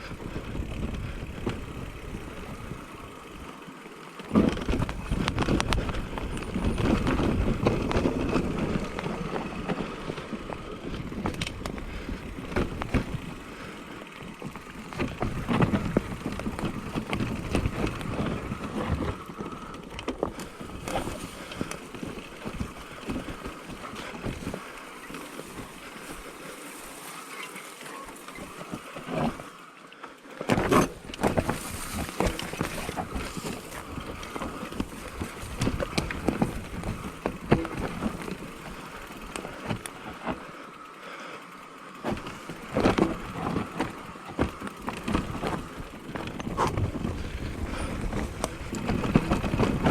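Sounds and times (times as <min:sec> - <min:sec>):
bike knocks and rattles: 0:00.0 - 0:49.9
tyres over dirt and rocks: 0:00.0 - 0:49.9.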